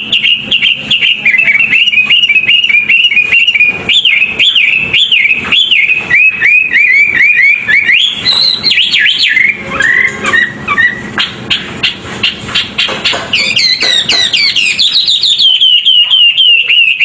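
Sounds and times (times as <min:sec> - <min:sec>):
songbird whistled notes: 0:00.0 - 0:11.6, 0:13.3 - 0:17.0
bird sharp chips: 0:00.0 - 0:17.0.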